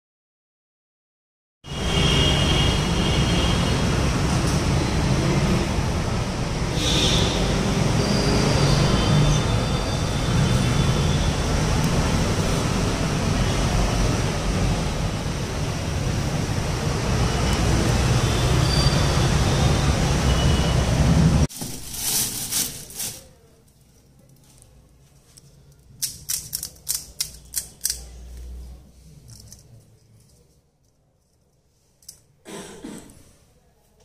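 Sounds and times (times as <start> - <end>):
street traffic rumble: 1.7 - 33.2.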